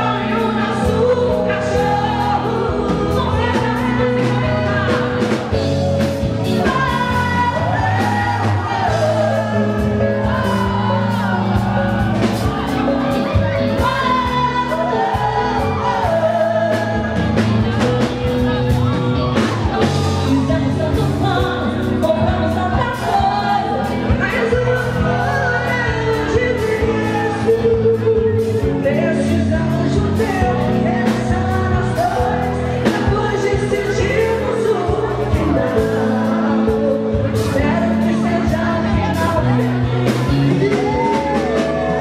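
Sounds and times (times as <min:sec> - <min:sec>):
live band music: 0:00.0 - 0:42.0
woman singing: 0:00.0 - 0:42.0.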